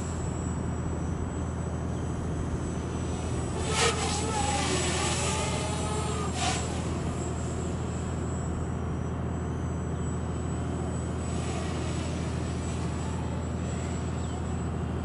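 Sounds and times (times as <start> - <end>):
distant drone propellers buzzing: 0.0 - 15.0.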